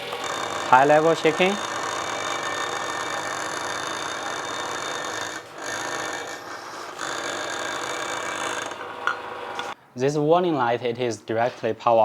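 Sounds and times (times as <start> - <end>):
vibration motor buzzing: 0.0 - 9.8.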